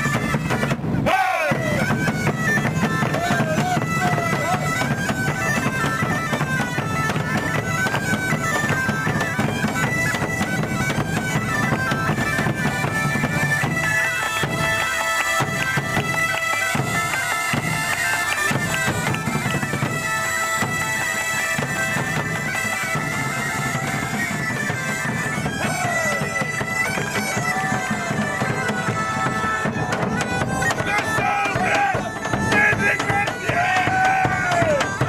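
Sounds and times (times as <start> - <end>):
bagpipe music: 0.0 - 35.0.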